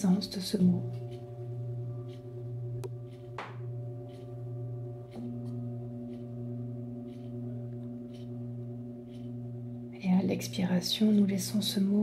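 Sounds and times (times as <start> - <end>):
singing bowls ringing: 0.0 - 12.0.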